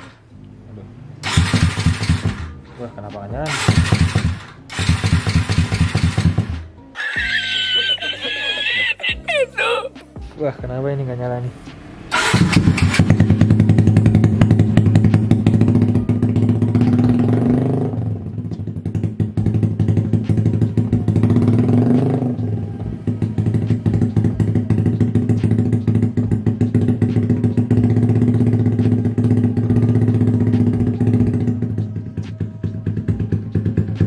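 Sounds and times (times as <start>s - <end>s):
motorcycle engine idling and revving: 0.0s - 6.9s, 10.2s - 34.0s.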